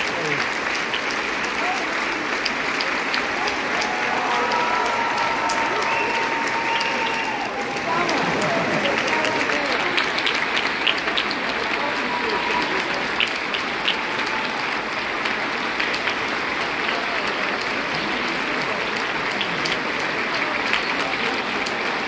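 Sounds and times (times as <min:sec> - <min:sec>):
audience applauding: 0:00.0 - 0:22.0.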